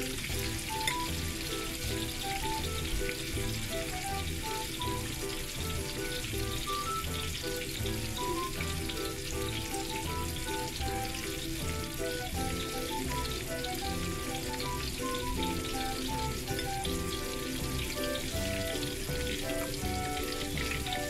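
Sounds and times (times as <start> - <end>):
background music with pulsing bass: 0.0 - 21.0
shrimp sizzling in hot oil: 0.0 - 21.0.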